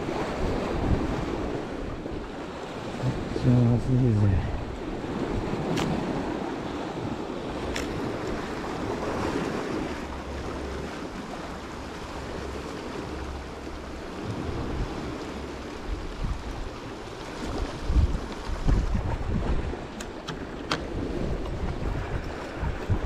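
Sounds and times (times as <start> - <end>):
sea waves washing against rocks: 0.0 - 23.0
wind buffeting microphone: 0.0 - 23.0.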